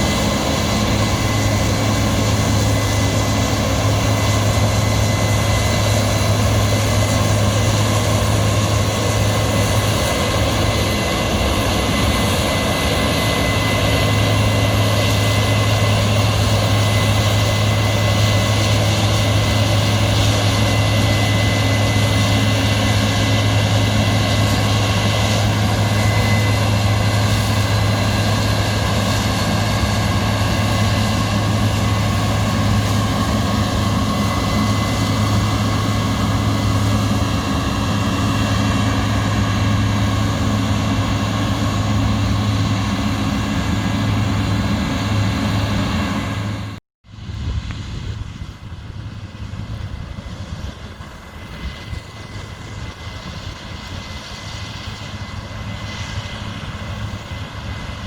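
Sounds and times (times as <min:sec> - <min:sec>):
rush of machinery noise: 0:00.0 - 0:58.0.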